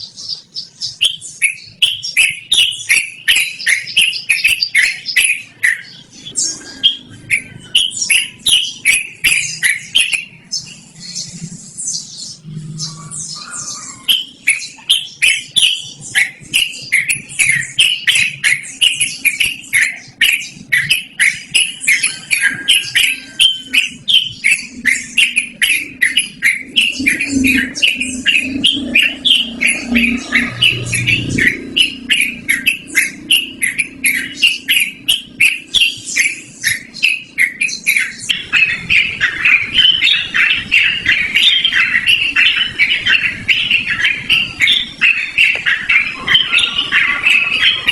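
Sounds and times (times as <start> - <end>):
bulbul chattering song: 0.0 - 47.9.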